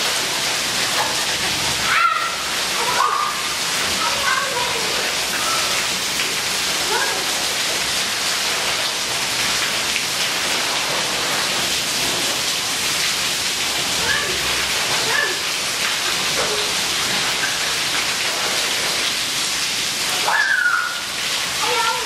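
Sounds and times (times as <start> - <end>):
heavy rain on paving and grass: 0.0 - 22.0.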